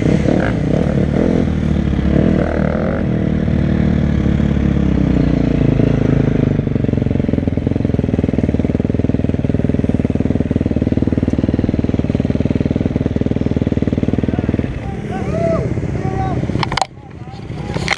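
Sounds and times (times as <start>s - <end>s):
motocross bike engine idling: 0.6s - 17.9s.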